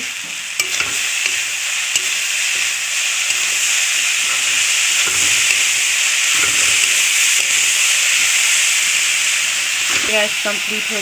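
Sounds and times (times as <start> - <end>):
greens sizzling in hot oil: 0.0 - 11.0
spatula scraping a wok: 0.6 - 10.3.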